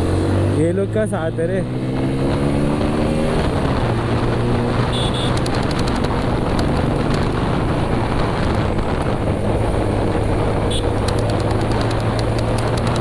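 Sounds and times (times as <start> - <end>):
wind on microphone: 1.6 - 13.0
motorcycle engine running: 2.3 - 13.0.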